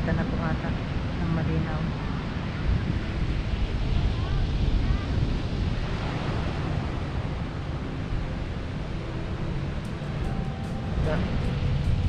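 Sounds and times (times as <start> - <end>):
wind rumbling on microphone: 0.0 - 12.0
surf breaking on beach: 1.9 - 12.0.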